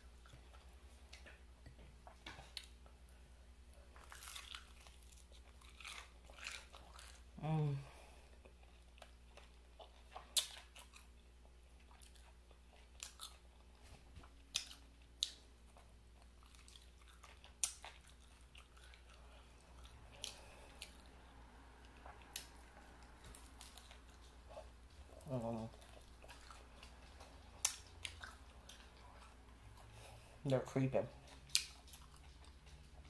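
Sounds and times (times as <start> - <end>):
person chewing: 0.0 - 30.5, 31.1 - 33.0.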